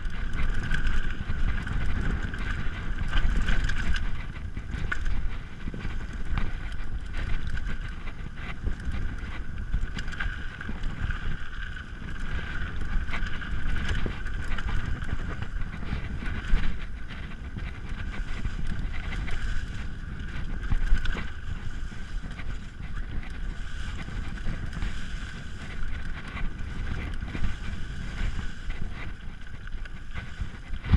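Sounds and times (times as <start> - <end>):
bike knocks and rattles: 0.0 - 30.9
wind noise on microphone: 0.0 - 30.9.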